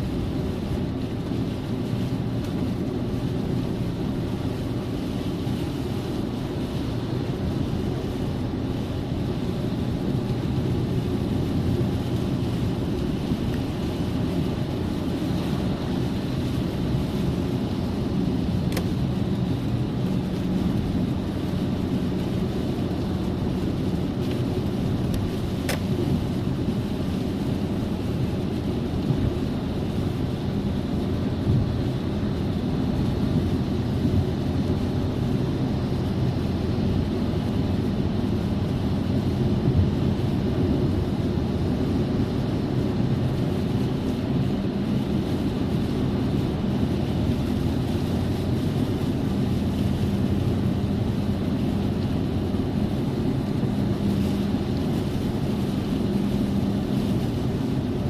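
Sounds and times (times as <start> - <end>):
low traffic rumble: 0.0 - 58.0.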